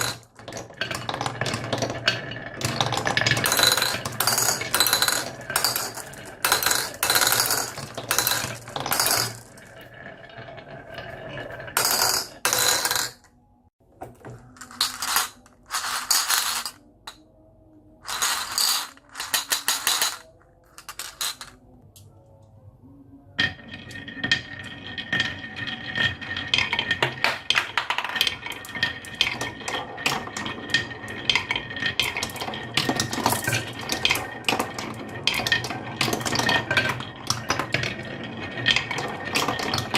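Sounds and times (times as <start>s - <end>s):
marbles rolling down wooden run: 0.0s - 13.2s, 14.2s - 16.8s, 18.0s - 21.6s, 23.4s - 39.9s
many marbles clacking together: 0.0s - 13.3s, 14.2s - 17.2s, 18.0s - 21.7s, 23.4s - 39.9s.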